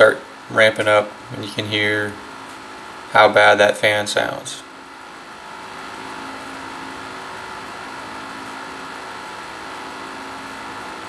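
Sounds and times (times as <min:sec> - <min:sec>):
laptop cooling fans whirring: 0:00.0 - 0:11.0.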